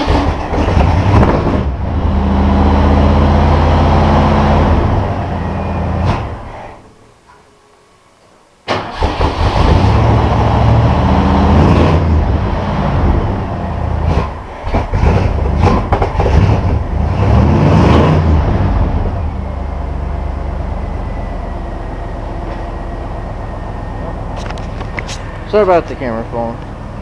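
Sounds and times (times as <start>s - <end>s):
engine revving and idling: 0.0s - 6.5s, 8.8s - 27.0s.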